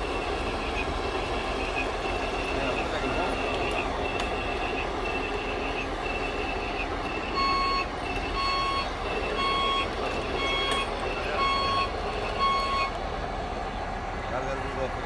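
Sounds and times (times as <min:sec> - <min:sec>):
reversing alarm beeping: 0:00.0 - 0:13.0
machine noise: 0:00.0 - 0:14.9.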